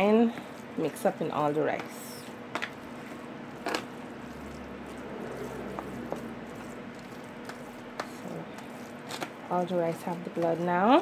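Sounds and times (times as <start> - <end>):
steady low hum: 0.0 - 11.0
wet squishing of stirred rice: 0.0 - 11.0.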